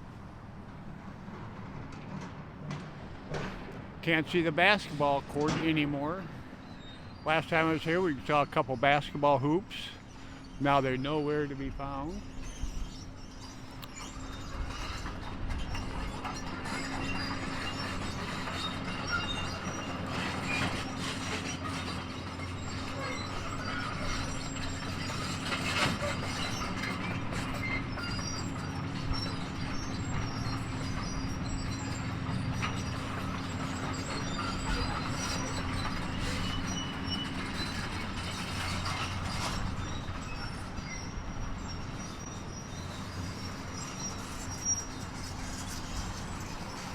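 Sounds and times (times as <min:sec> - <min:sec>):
diesel machinery running: 0:00.0 - 0:46.9.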